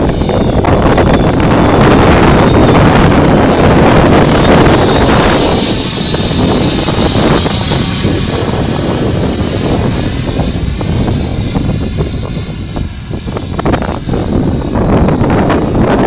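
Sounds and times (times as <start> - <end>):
electric ducted fan whine: 0.0 - 16.0
wind buffeting microphone: 0.0 - 16.0.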